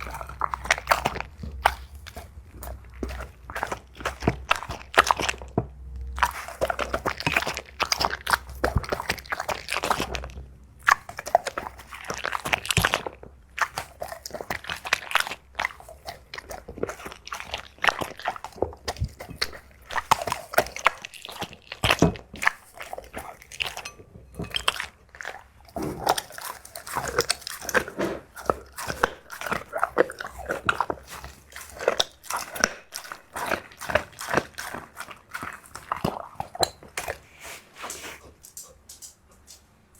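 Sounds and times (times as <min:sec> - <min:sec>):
dog crunching food: 0:00.0 - 0:39.7.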